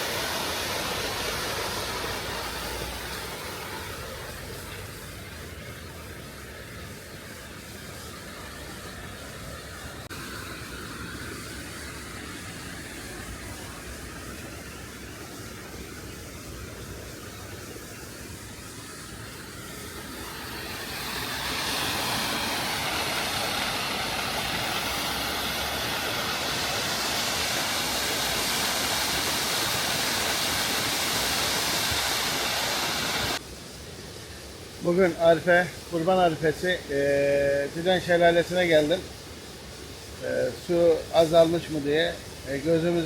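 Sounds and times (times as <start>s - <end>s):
steady background noise: 0.0s - 43.0s
waterfall rushing: 0.0s - 43.0s.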